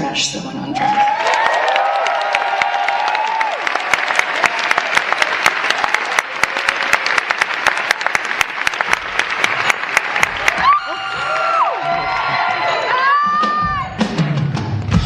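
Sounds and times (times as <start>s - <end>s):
audience applauding: 0.8s - 13.2s.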